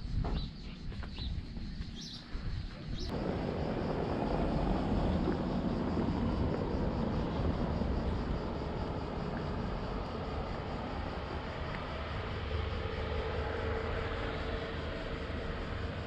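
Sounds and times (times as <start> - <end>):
low rumbling noise: 2.4 - 16.0.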